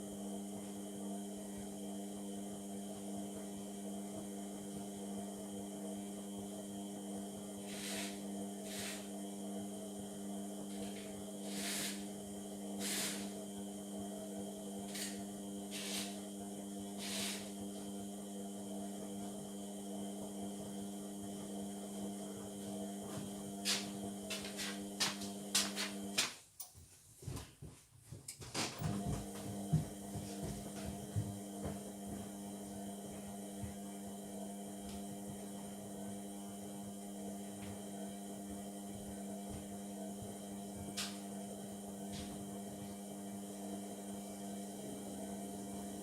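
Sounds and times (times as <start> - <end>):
washing machine motor hum: 0.0 - 26.4, 28.4 - 46.0.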